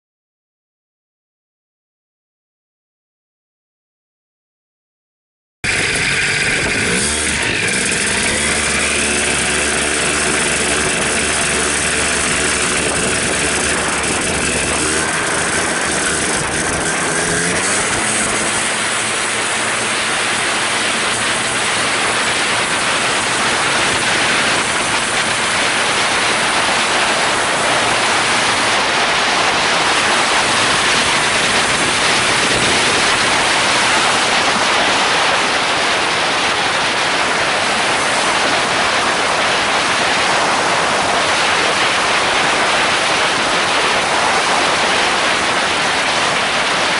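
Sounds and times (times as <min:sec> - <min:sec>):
two-stroke engine at high power: 0:05.6 - 0:46.9
wind noise on microphone: 0:05.6 - 0:46.9.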